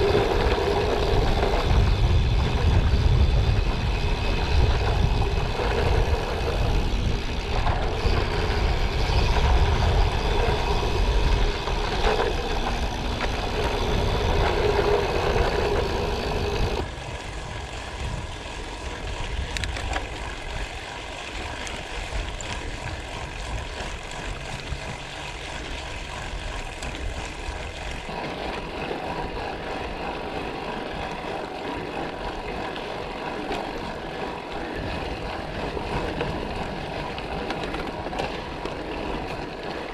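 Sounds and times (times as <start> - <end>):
tyres rolling over gravel: 0.0 - 39.9
wind buffeting microphone: 0.0 - 39.9.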